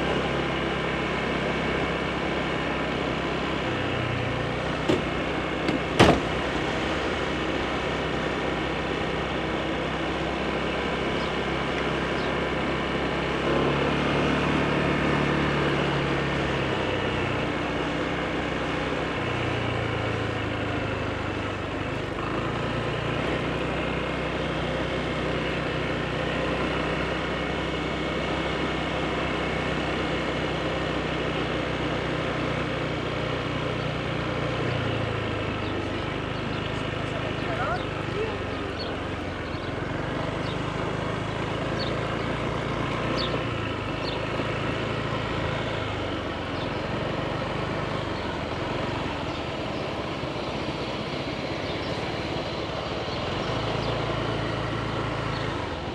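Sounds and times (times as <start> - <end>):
road and wind noise: 0.0 - 55.9
scooter engine running: 0.0 - 55.9.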